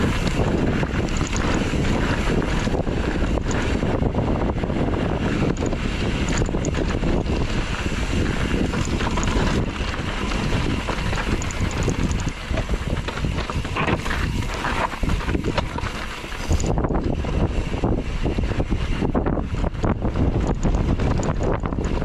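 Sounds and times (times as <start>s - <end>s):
bike rattling on rough trail: 0.0s - 22.0s
wind buffeting microphone: 0.0s - 22.0s.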